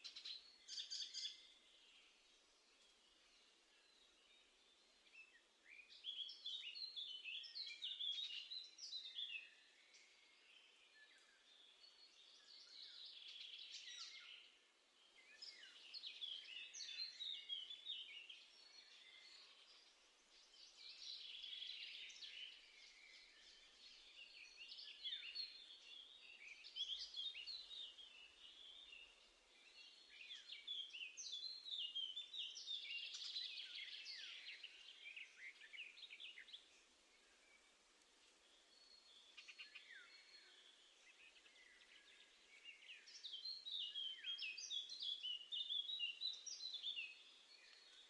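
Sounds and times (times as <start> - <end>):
songbird singing: 0.0 - 48.0.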